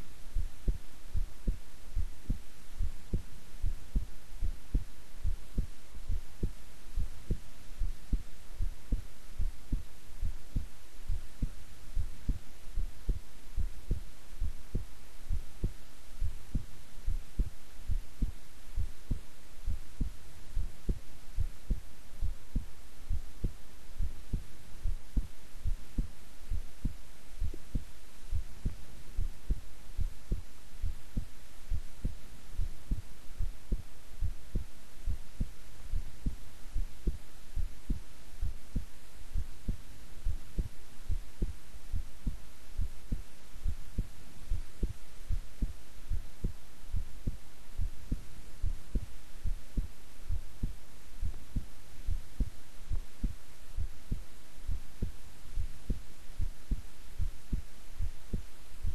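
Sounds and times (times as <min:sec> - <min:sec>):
faint hiss: 0:00.0 - 0:58.9
heart beating: 0:00.3 - 0:58.9.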